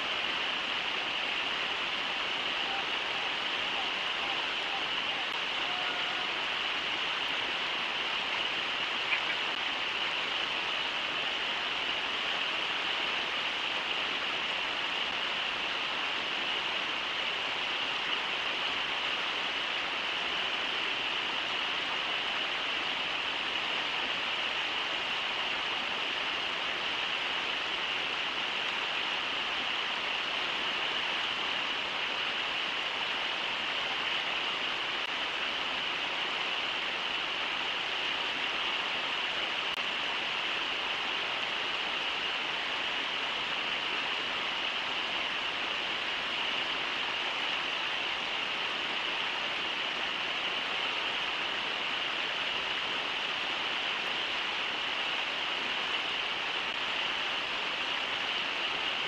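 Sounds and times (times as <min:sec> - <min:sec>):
river water rushing over riffles: 0:00.0 - 0:59.0.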